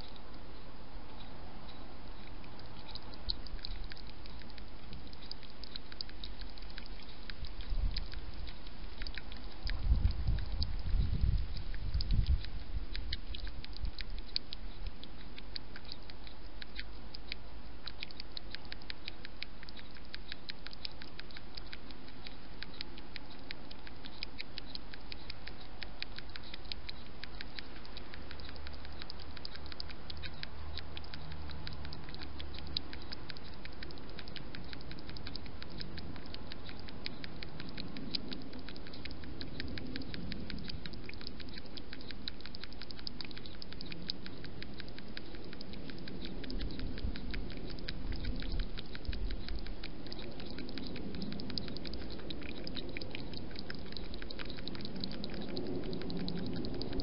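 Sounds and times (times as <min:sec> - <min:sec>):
hedgehog clicking while feeding: 0:00.0 - 0:57.0.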